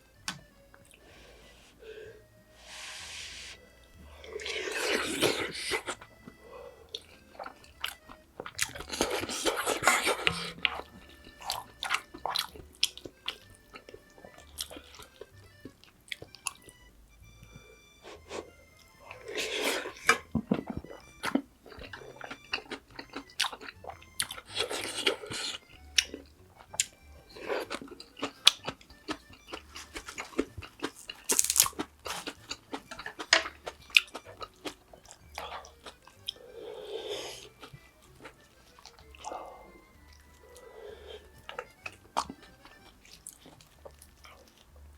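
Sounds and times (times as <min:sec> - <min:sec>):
faint background music: 0:00.0 - 0:44.9
person chewing and crunching food: 0:00.0 - 0:44.9.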